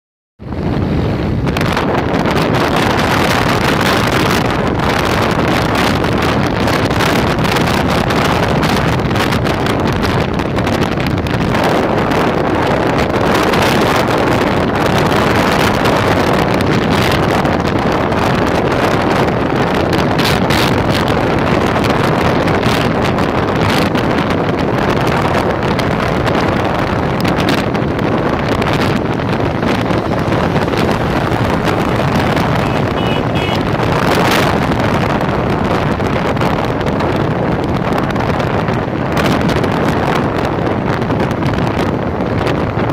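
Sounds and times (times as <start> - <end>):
road and engine noise: 0.4 - 42.9
wind rushing over microphone: 0.4 - 42.9.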